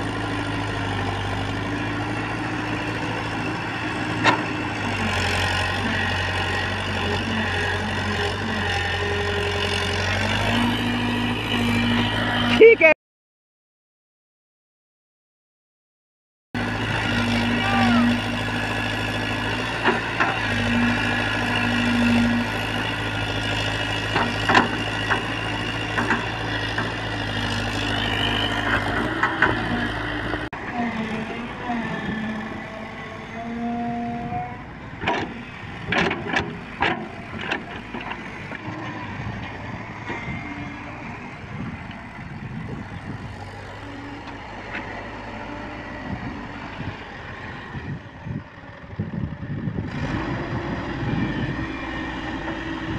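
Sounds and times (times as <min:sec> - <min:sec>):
excavator diesel engine droning: 0:00.0 - 0:13.0, 0:16.6 - 0:52.9.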